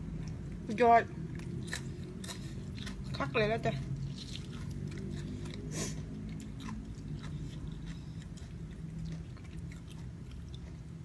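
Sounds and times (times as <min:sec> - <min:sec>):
steady low hum: 0:00.0 - 0:11.0
person chewing food: 0:01.2 - 0:11.0.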